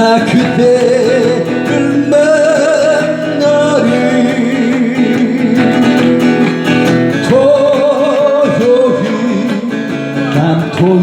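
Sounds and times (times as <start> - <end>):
person singing: 0.0 - 11.0
strummed acoustic guitar: 0.0 - 11.0.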